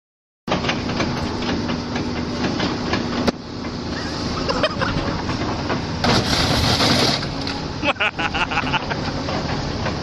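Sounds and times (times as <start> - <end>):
vehicle hum with regular clacks: 0.5 - 10.0.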